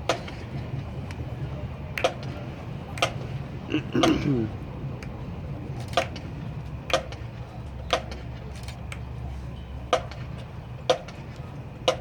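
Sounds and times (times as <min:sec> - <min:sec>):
stadium crowd rumble: 0:00.0 - 0:12.0.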